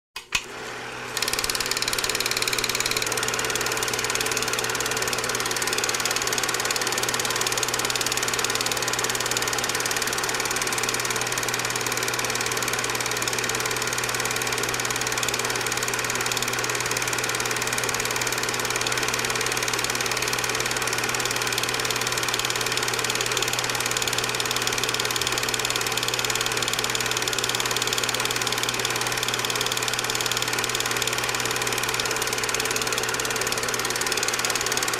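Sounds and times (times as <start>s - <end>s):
film projector whirring: 0.2s - 34.9s.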